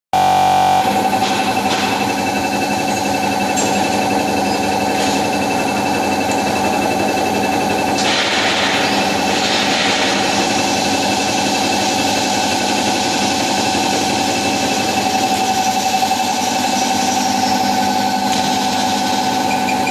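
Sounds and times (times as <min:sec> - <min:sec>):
slicing machine motor hum: 0:00.2 - 0:19.9
rapid mechanical rattle: 0:00.8 - 0:19.9
machine hissing: 0:01.0 - 0:19.9.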